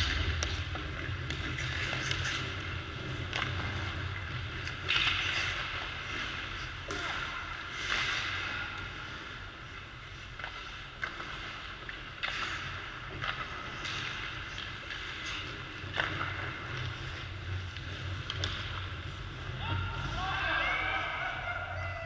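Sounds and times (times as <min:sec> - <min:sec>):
hockey sticks and pucks clacking: 0:00.0 - 0:22.0
ice skates scraping: 0:00.0 - 0:22.0.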